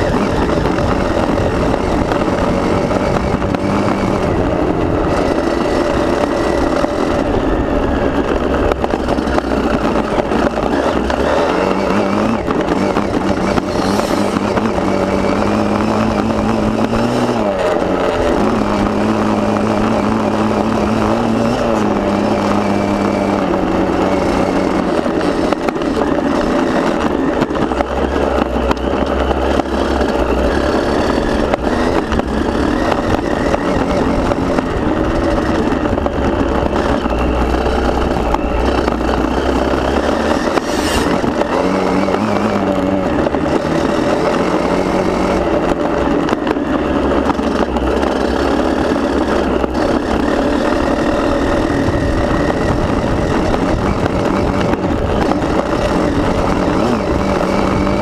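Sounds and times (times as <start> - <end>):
motocross bike engine revving: 0.0 - 58.0
track noise: 0.0 - 58.0
wind noise: 0.0 - 58.0.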